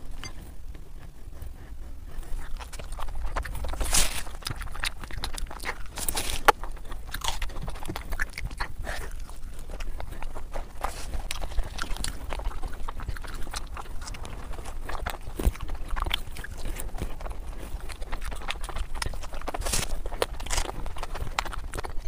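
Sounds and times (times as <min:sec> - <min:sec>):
person chewing: 0:00.0 - 0:22.0
wet mouth smacks and clicks: 0:02.4 - 0:22.0.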